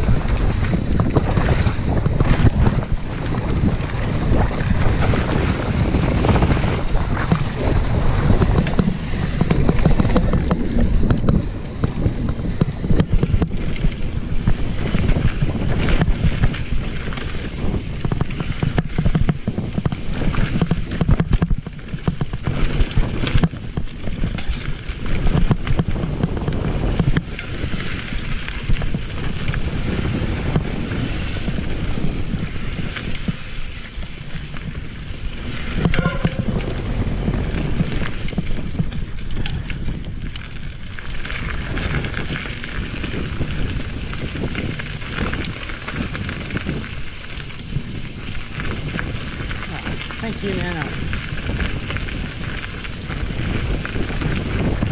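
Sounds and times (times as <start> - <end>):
bike rattling and knocking: 0.0 - 54.9
tyres crunching over stones: 0.0 - 54.9
wind on microphone: 0.0 - 54.9.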